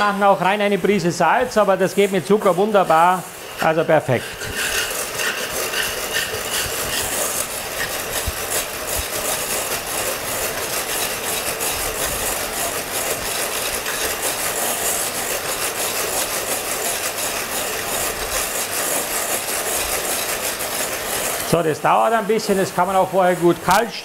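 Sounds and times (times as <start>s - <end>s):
electric hand mixer whisking: 0.0s - 24.0s.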